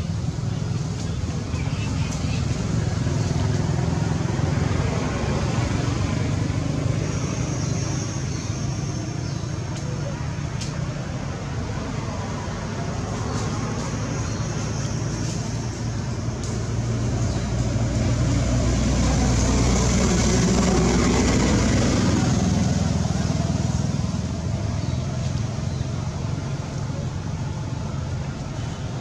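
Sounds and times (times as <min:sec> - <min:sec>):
motor vehicle passing by: 0:00.0 - 0:29.0.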